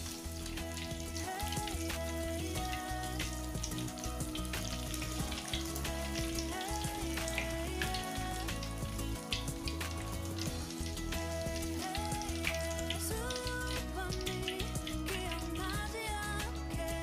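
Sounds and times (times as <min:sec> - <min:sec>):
egg sizzling in a wok: 0:00.0 - 0:15.9
background music with sustained tones: 0:00.0 - 0:17.0.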